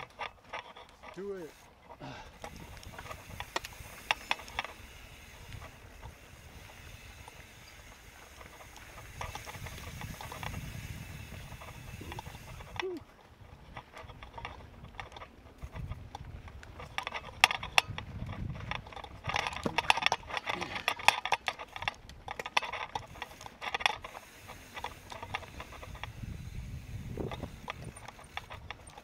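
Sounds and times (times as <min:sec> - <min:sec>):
mountain bike rattling over rock: 0:00.0 - 0:29.0.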